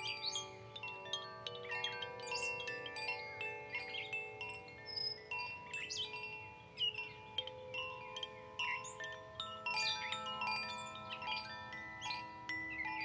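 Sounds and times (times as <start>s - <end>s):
songbirds chirping: 0.0s - 13.0s
wind chimes ringing: 0.0s - 13.0s.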